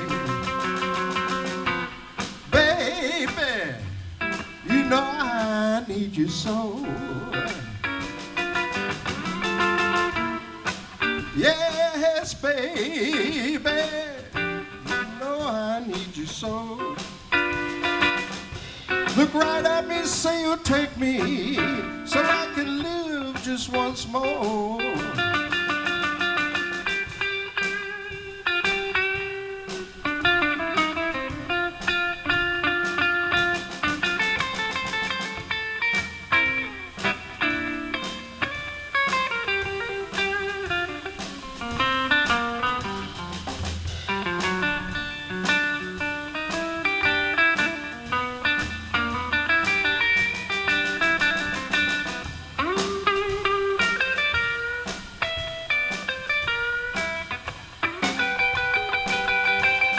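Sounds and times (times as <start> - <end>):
blues guitar solo: 0.0 - 59.9.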